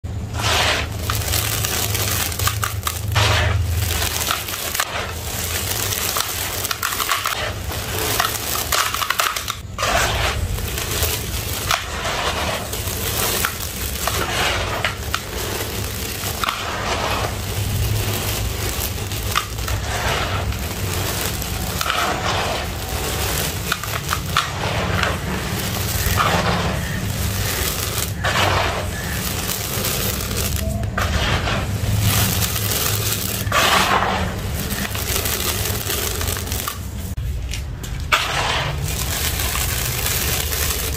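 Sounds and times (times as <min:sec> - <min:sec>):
grit pouring into basin: 0:00.0 - 0:40.9
hands crunching dry sand: 0:00.3 - 0:36.8.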